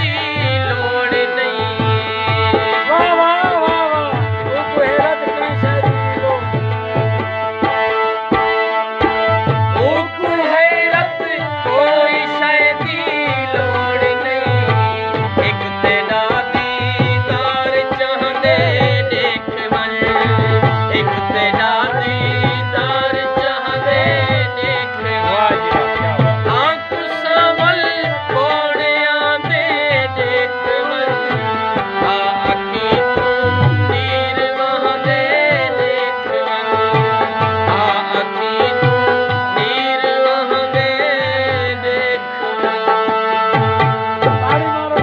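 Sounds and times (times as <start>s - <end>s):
harmonium melody: 0.0s - 45.0s
man singing: 0.0s - 45.0s
tabla beat: 0.0s - 45.0s.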